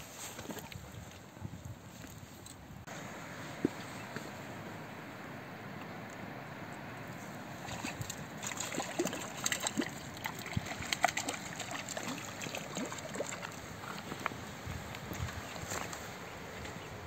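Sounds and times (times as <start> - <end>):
fish splashing in water: 3.0 - 16.9.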